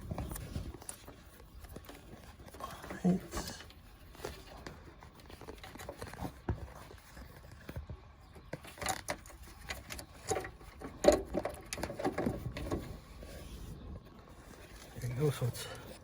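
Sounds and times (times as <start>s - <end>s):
plastic clicks and scrapes: 0.0s - 13.4s.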